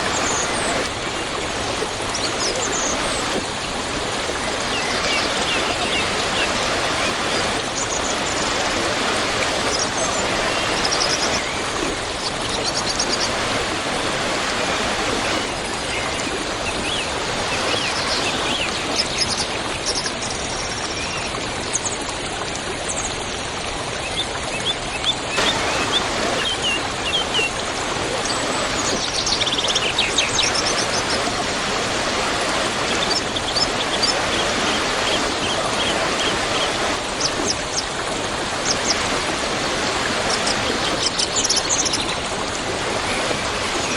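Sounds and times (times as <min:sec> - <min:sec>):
waterfall rushing: 0:00.0 - 0:20.1, 0:25.4 - 0:43.9
small birds chirping: 0:00.0 - 0:21.3, 0:25.3 - 0:42.2.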